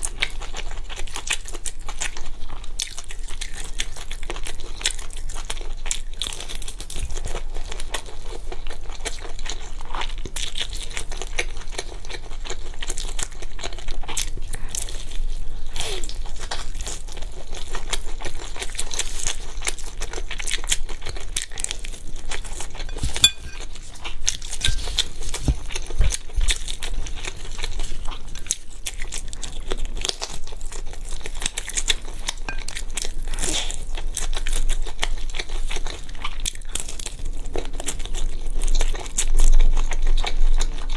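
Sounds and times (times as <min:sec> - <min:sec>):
chewing and crunching food: 0:00.0 - 0:40.9.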